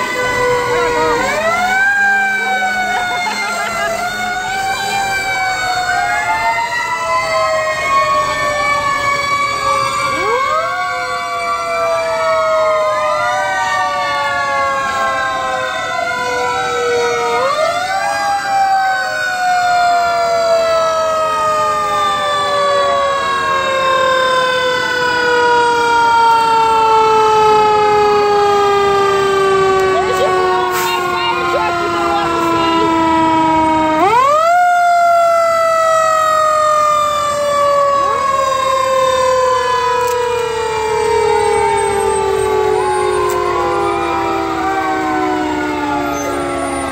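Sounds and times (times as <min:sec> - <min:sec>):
fire engine sirens wailing: 0:00.0 - 0:46.9.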